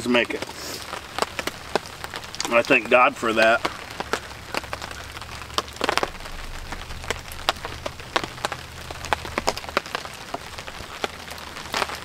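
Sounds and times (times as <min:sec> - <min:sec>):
campfire crackling: 0:00.0 - 0:12.0
rain drops tapping on a tarp: 0:00.0 - 0:12.0.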